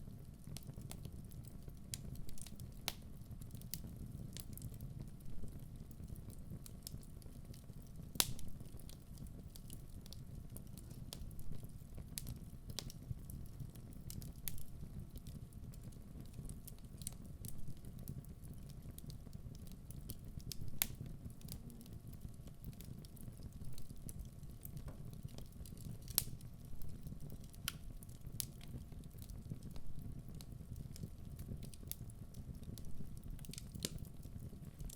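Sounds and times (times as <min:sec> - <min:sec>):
burning logs crackling: 0:00.0 - 0:34.9.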